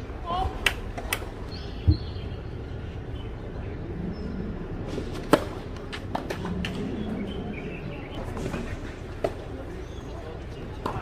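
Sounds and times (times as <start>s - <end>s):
outdoor background hum: 0.0s - 11.0s.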